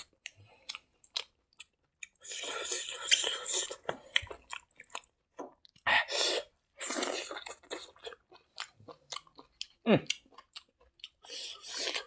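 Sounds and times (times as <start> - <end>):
wet chewing mouth sounds: 0.0 - 5.8, 6.4 - 12.0.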